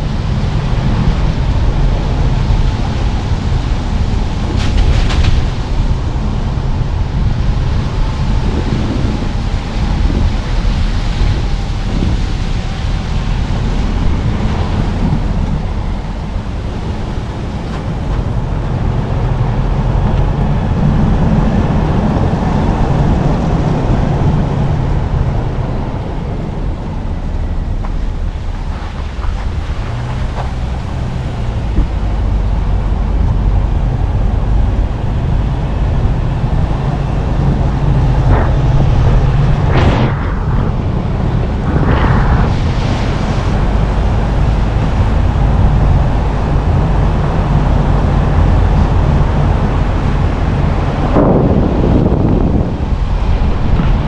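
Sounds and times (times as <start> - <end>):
car engine and tyre rumble: 0.0 - 54.0
wind noise: 0.0 - 54.0.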